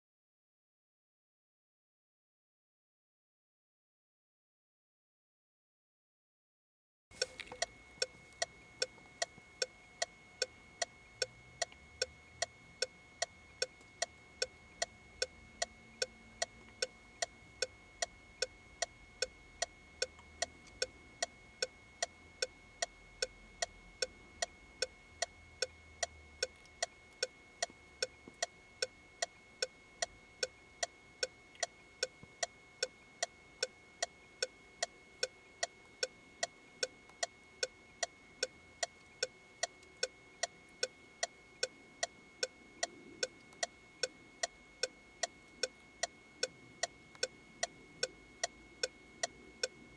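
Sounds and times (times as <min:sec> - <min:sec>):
turn signal ticking: 0:07.2 - 0:49.8.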